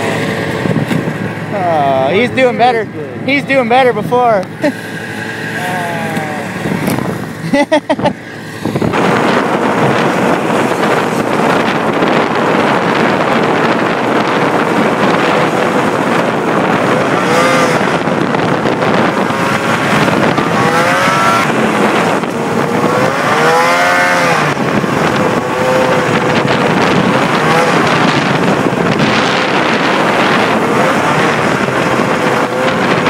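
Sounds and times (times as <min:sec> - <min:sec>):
snowmobile engine running hard: 0:00.0 - 0:33.0.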